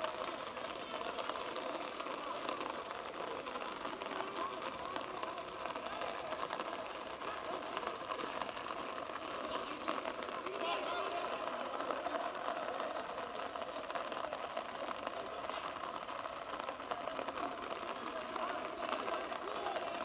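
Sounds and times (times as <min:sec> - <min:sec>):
distant players shouting: 0:01.2 - 0:20.0.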